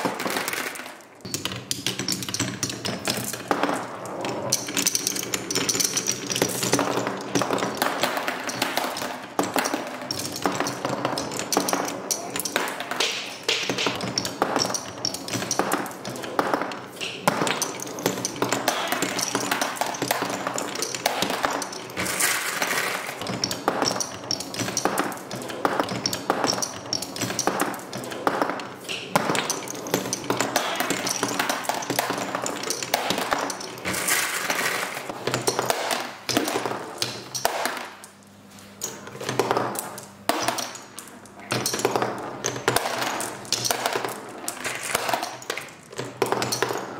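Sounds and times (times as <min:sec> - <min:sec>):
marbles clattering down wooden run: 0:00.0 - 0:38.0.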